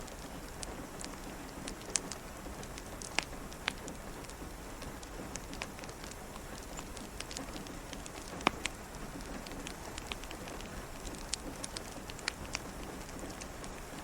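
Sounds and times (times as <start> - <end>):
rain pattering on a window: 0.0 - 14.0
wood fire crackling: 0.0 - 14.0.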